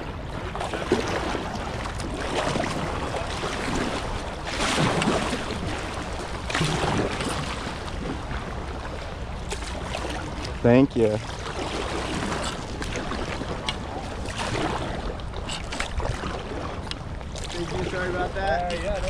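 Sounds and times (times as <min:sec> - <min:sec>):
river water rushing and splashing: 0:00.0 - 0:19.0.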